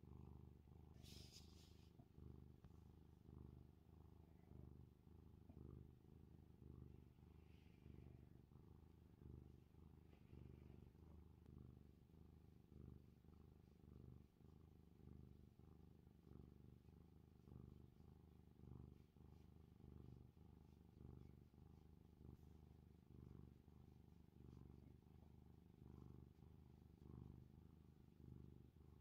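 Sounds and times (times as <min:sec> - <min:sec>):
cat purring softly: 0:00.0 - 0:29.0.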